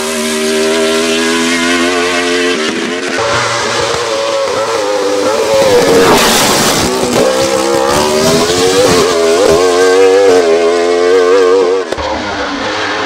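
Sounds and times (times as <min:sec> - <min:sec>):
race car accelerating: 0:00.0 - 0:13.0.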